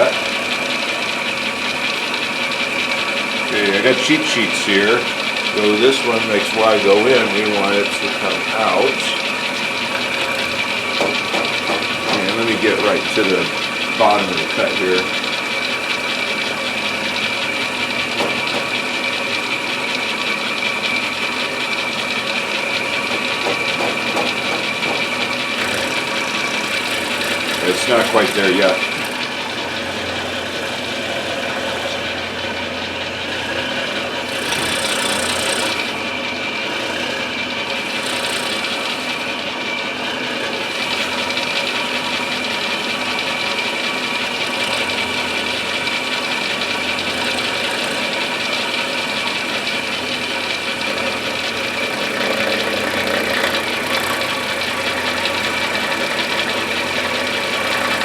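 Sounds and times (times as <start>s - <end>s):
milling machine cutting wood: 0.0s - 58.0s.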